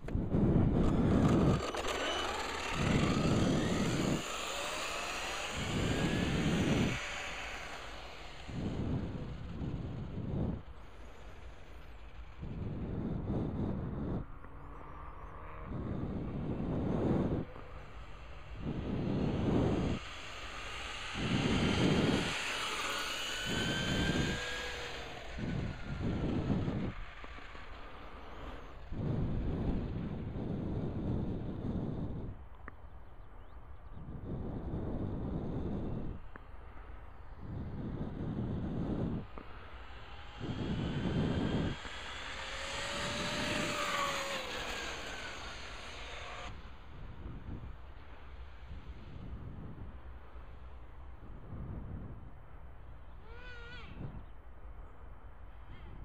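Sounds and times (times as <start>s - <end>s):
wind buffeting microphone: 0.0s - 14.5s, 15.2s - 56.0s
electric motor whine: 0.0s - 32.8s, 34.1s - 50.8s, 53.0s - 54.3s.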